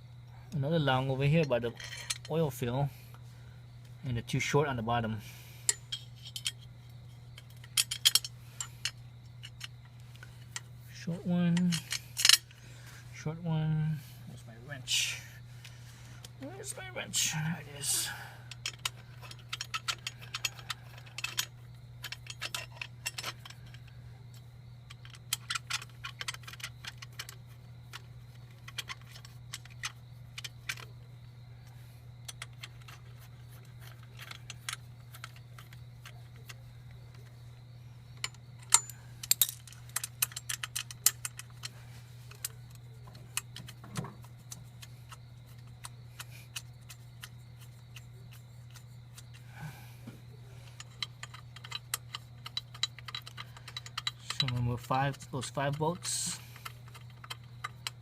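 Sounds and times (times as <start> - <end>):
steady low hum: 0.0 - 58.0
tools and bolts clinking: 1.0 - 2.6, 5.5 - 12.6, 16.2 - 58.0.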